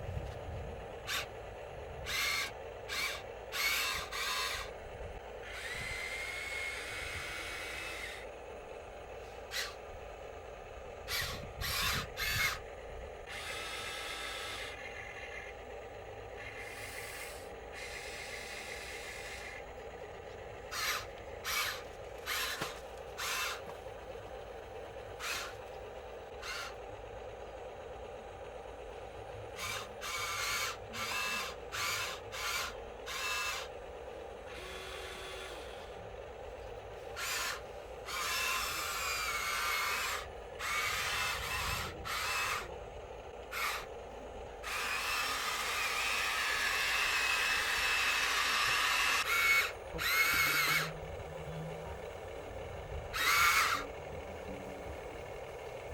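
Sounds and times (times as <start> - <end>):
small electric motors whirring: 0.0 - 55.9
steady hum: 0.0 - 55.9.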